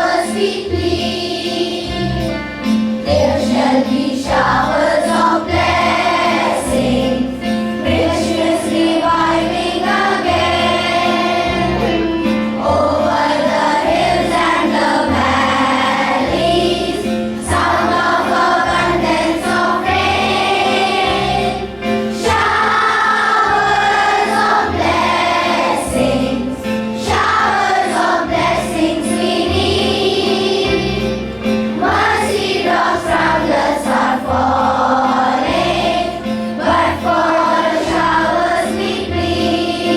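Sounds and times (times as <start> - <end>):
children singing in chorus: 0.0 - 2.2, 3.0 - 39.9
instrumental accompaniment: 0.0 - 39.9.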